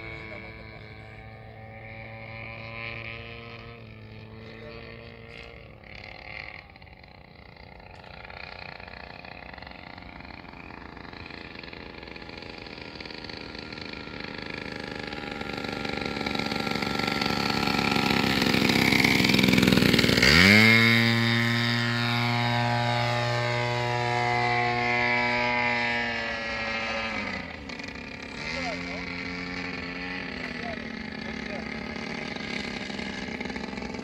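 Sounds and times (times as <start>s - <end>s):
model plane engine buzzing: 0.0s - 34.0s.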